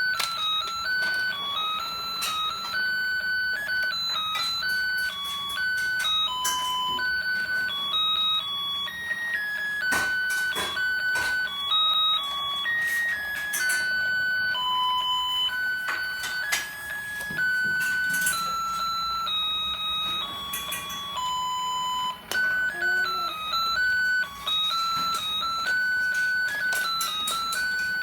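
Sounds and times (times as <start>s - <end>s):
electronic toy melody beeping: 0.0s - 28.0s.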